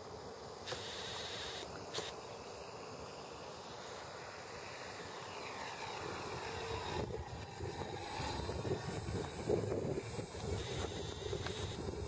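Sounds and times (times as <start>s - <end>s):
model airplane motor: 0.7s - 2.1s, 3.4s - 12.0s.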